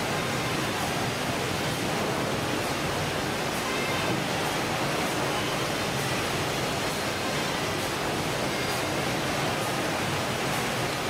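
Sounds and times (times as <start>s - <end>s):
fish-processing machinery: 0.0s - 11.0s
running water: 0.0s - 11.0s.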